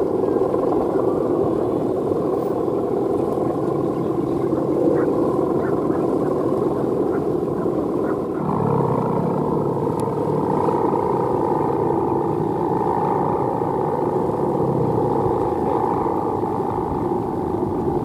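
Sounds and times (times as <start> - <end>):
kite hummer droning: 0.0 - 18.0.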